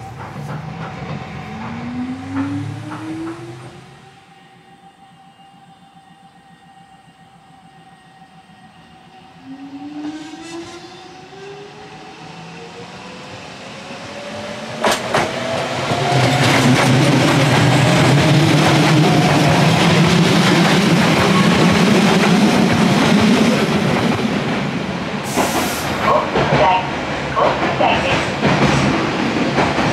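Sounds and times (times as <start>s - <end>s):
train wheels on rails: 0.0s - 4.2s, 9.8s - 29.9s.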